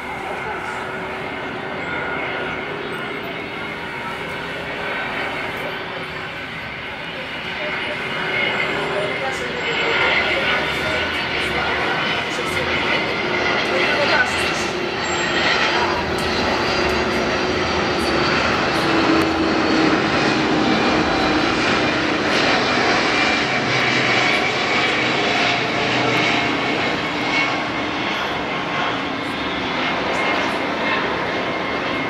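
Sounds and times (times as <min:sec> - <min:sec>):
jet airliner passing overhead: 0:00.0 - 0:32.0.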